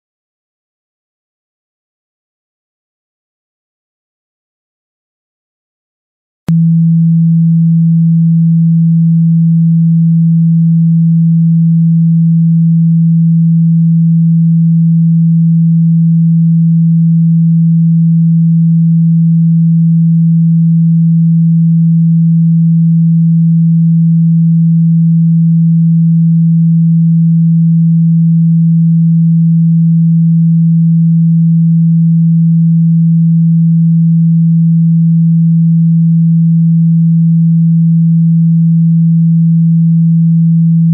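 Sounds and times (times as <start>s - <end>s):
low sine-wave tone: 6.5s - 40.9s.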